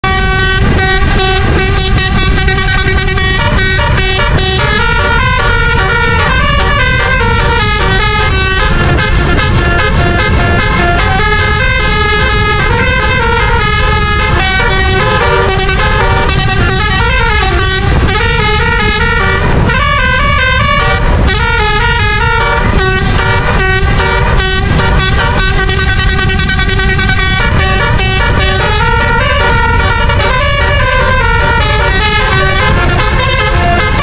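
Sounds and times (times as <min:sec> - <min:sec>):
low rumble: 0:00.0 - 0:34.0
musical air horn melody: 0:00.0 - 0:34.0.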